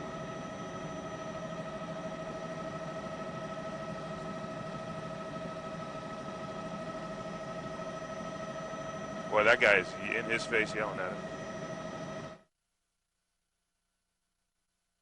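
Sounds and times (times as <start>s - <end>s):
aircraft cabin drone: 0.0s - 12.4s.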